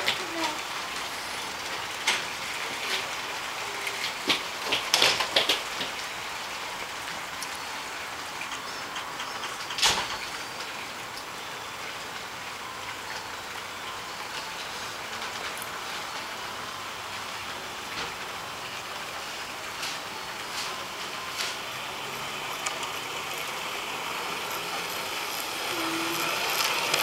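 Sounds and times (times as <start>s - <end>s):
model train wheels rolling: 0.0s - 27.0s.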